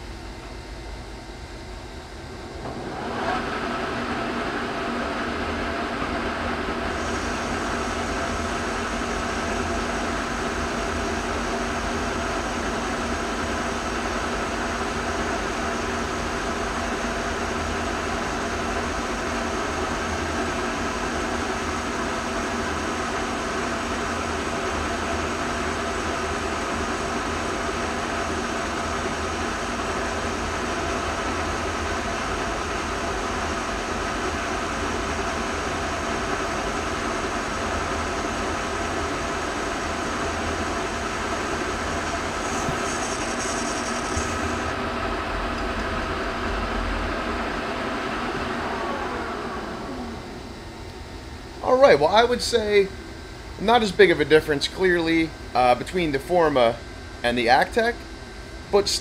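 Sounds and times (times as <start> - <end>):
lathe running: 1.5 - 52.9.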